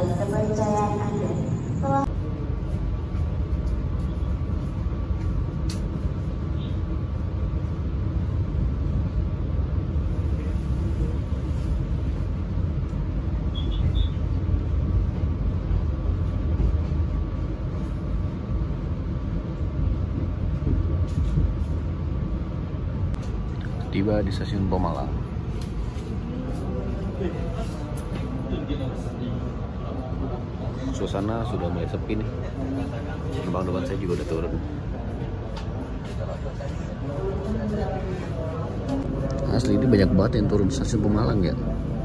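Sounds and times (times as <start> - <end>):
train coach rumbling on track: 0.0 - 39.4.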